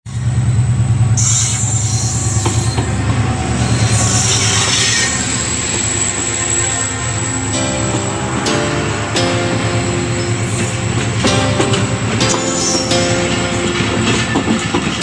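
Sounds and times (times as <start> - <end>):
train wheels hissing and squealing: 1.2 - 13.4.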